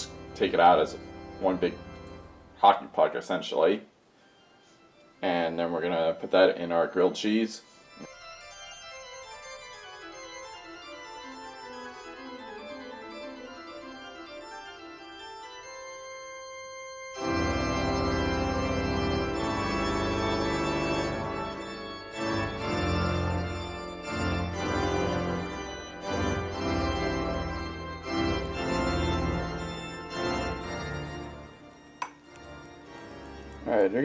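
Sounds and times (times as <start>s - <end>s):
organ playing chords: 0.0s - 34.0s.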